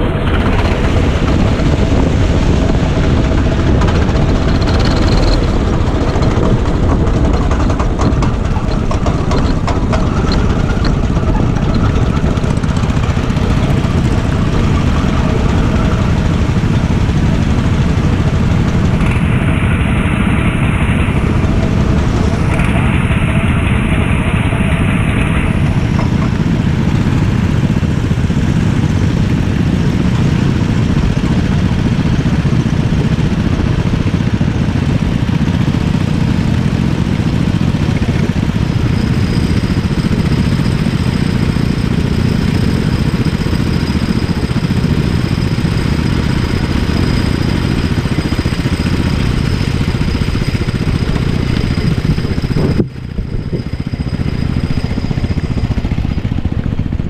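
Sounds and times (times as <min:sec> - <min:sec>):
go-kart engine rumble: 0:00.0 - 0:57.0.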